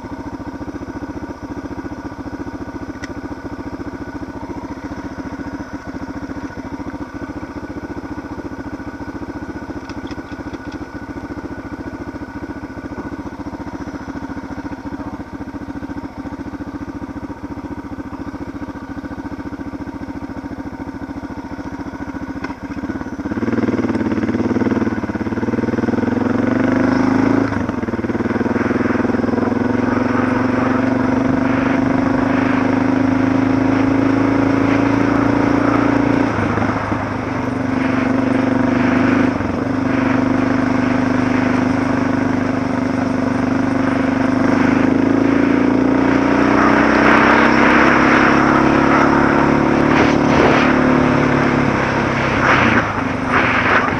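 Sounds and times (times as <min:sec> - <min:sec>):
motorcycle engine idling and revving: 0:00.0 - 0:53.9.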